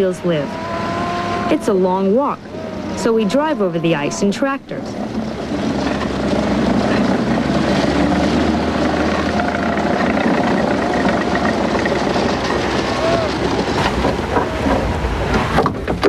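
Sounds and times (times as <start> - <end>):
tracked snow vehicle engine running: 0.0 - 16.0.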